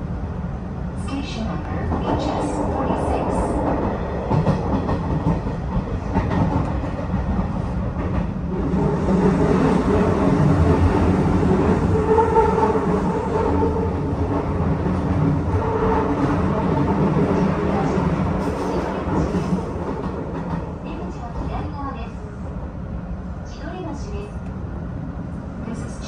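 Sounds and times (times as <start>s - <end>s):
train rumble with rail noise: 0.0s - 26.0s.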